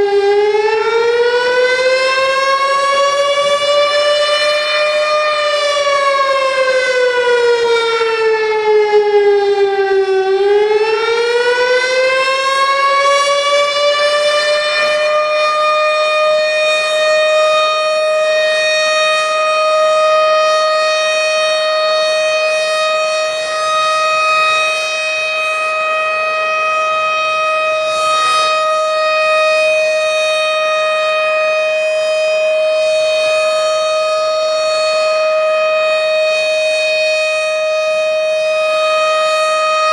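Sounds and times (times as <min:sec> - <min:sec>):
tornado warning siren: 0:00.0 - 0:39.9.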